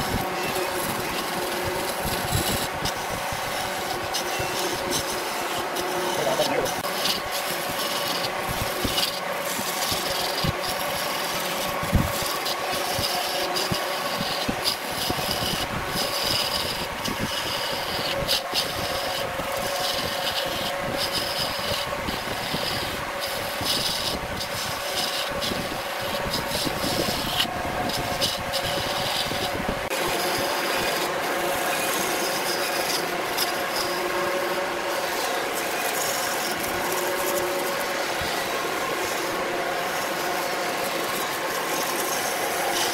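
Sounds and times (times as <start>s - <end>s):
tool scraping spinning wood: 0.0s - 42.9s
wood lathe motor hum: 0.0s - 42.9s.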